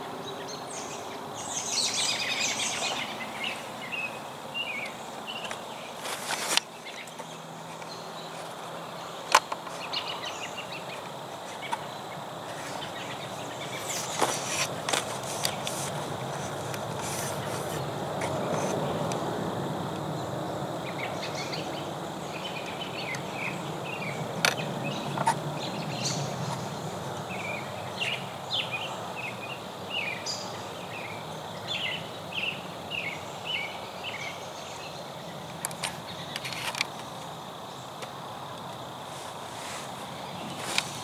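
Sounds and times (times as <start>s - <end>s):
bird chirping: 0.0s - 19.2s, 20.1s - 38.0s
background hiss: 0.0s - 41.0s.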